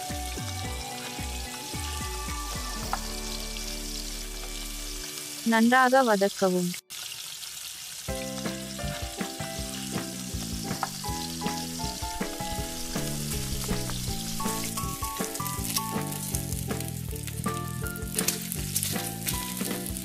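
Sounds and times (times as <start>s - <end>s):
instrumental background music: 0.0s - 5.8s, 8.1s - 20.0s
corn sizzling in frying pan: 0.0s - 20.0s.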